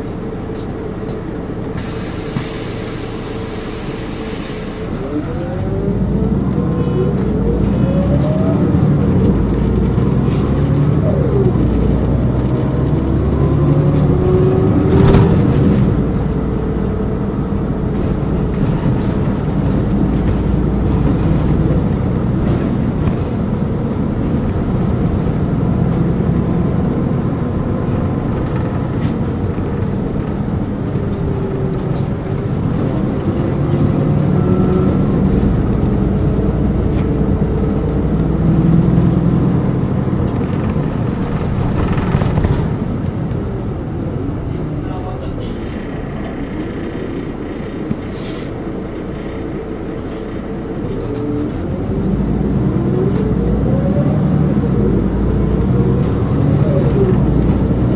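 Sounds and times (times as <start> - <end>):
diesel bus engine pulling away: 0.0 - 57.9.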